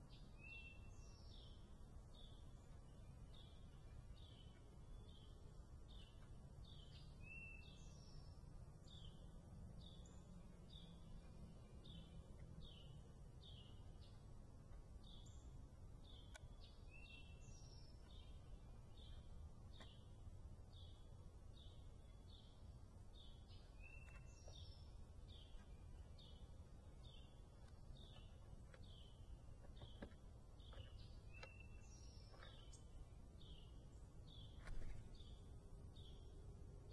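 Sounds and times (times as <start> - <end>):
faint bird chirping: 0.0 - 36.9.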